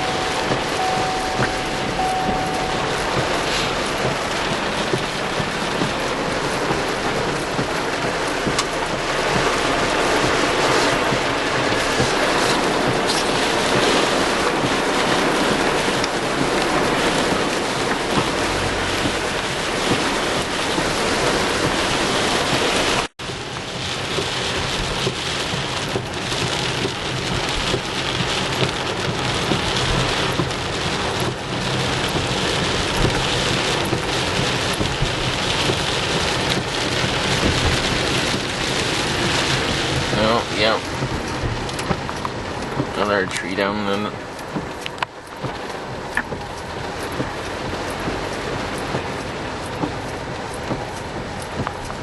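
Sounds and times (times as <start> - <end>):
heavy rain pattering: 0.0 - 52.0
road noise: 0.0 - 52.0
vehicle engine hum: 0.0 - 52.0.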